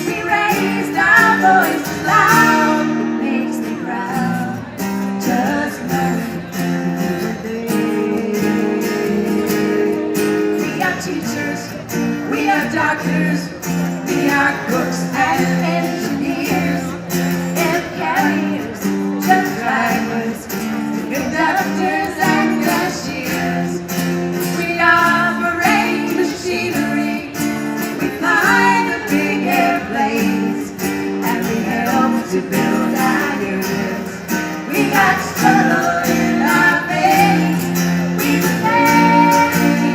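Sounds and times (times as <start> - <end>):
strummed acoustic guitar: 0.0 - 39.9
woman singing: 0.0 - 39.9.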